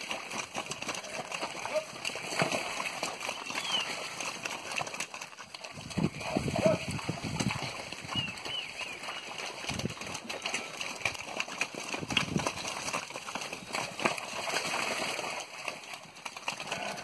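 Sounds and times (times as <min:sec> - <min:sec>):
hooves trotting in mud: 0:00.0 - 0:17.0.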